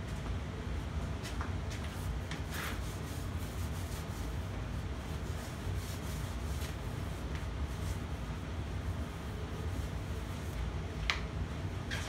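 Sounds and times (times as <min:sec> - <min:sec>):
fan humming: 0:00.0 - 0:12.0.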